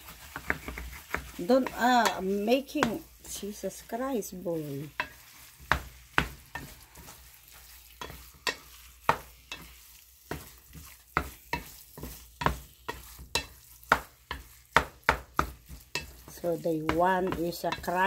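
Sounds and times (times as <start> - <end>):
faint frying sizzle: 0.0 - 18.0
wooden spatula scraping skillet: 0.0 - 18.0.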